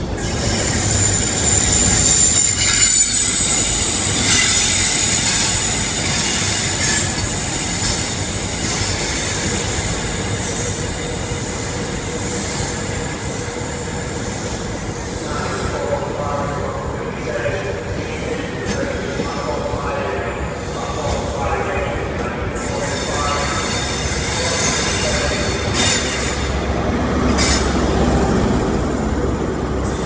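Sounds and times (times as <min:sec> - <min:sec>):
diesel train rumbling: 0:00.0 - 0:30.0.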